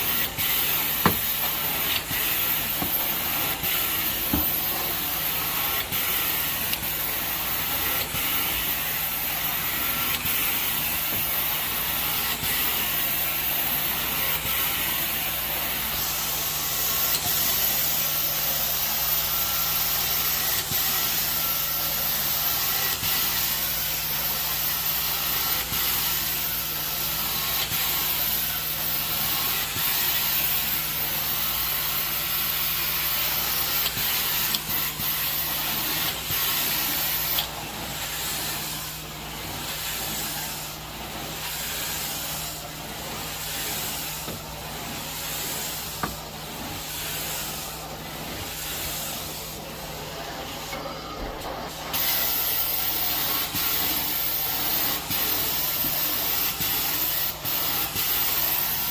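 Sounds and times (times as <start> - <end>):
carpet cleaning wand hissing: 0.0 - 58.9.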